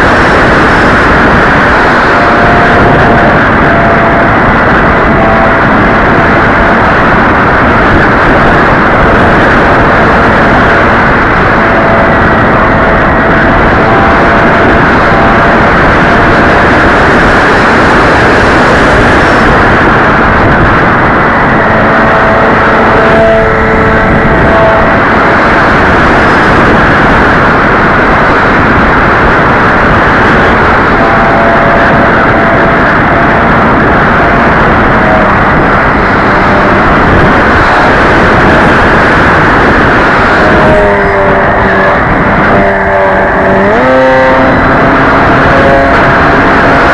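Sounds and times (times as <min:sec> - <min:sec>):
model plane rushing noise: 0:00.0 - 0:46.9.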